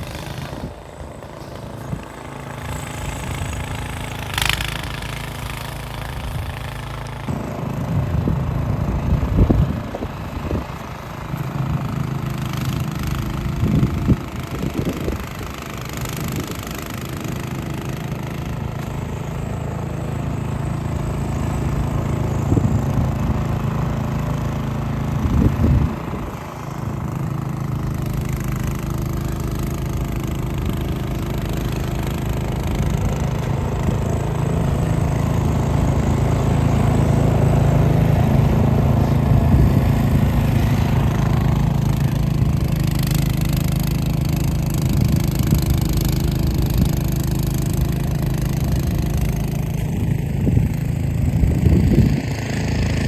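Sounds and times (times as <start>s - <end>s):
engine running: 0.0s - 53.0s.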